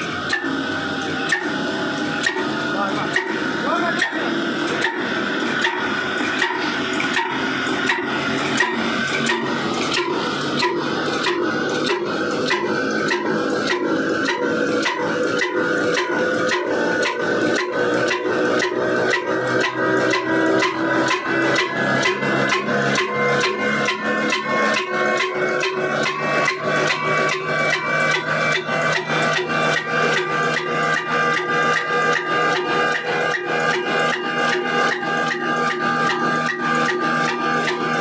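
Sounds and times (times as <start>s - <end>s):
old diesel engine firing knocks: 0.0s - 38.0s.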